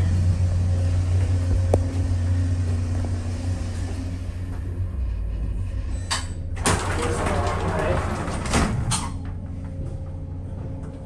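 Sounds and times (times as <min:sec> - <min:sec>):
low machinery rumble: 0:00.0 - 0:11.0.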